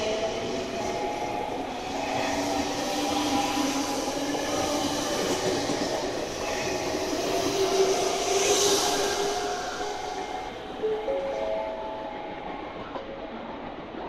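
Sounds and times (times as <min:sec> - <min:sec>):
train wheel running noise: 0:00.0 - 0:14.0.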